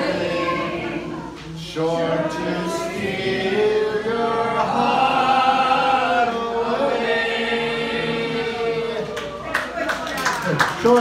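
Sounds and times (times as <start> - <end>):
crowd singing along: 0.0 - 9.8.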